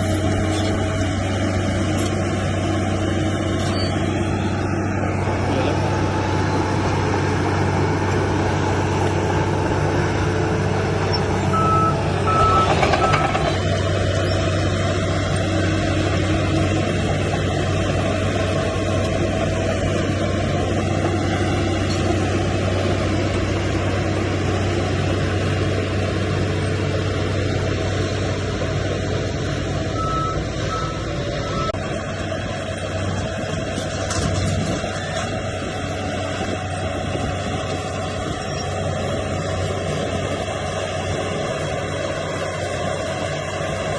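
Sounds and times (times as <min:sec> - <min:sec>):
heavy diesel machine running: 0:00.0 - 0:43.9.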